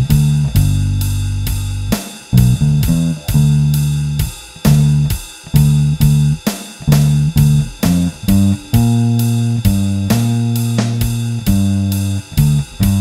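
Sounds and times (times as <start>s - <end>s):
drum kit beat: 0.0s - 13.0s
electric bass line: 0.0s - 13.0s.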